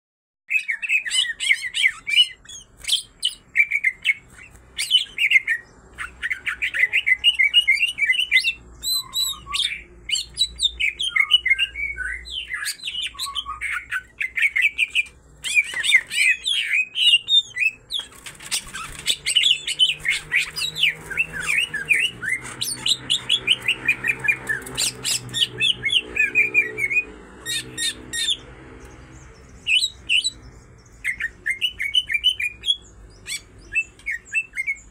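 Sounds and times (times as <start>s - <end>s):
birds singing chirps and whistles: 0.5s - 34.9s.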